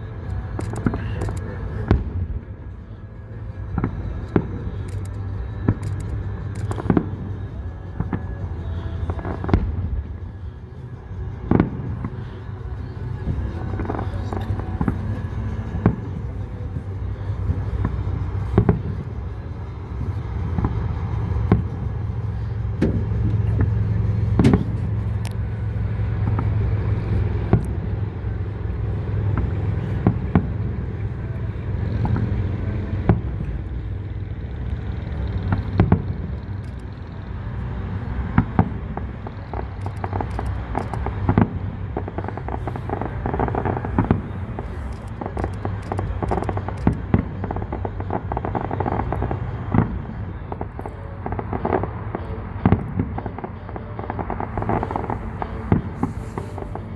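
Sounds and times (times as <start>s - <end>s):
steady low hum: 0.0s - 56.9s
fireworks bursting with sharp bangs: 0.2s - 56.9s.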